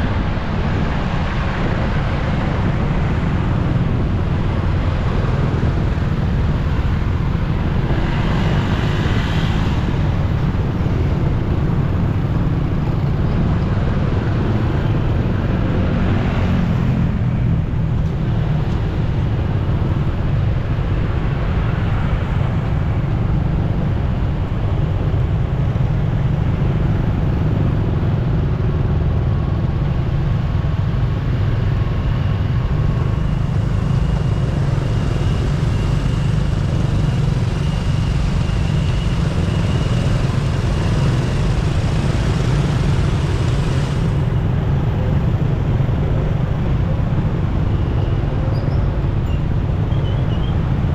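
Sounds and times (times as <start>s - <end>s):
motorcycle engine rumble: 0.0s - 50.9s
vehicles passing: 0.0s - 50.9s.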